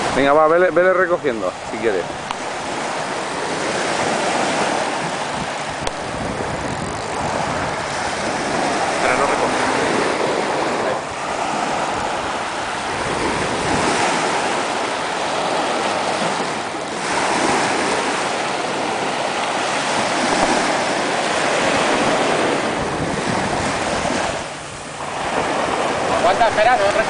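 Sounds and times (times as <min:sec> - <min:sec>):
waves washing up a beach: 0:00.0 - 0:27.0
wind buffeting microphone: 0:00.0 - 0:27.0.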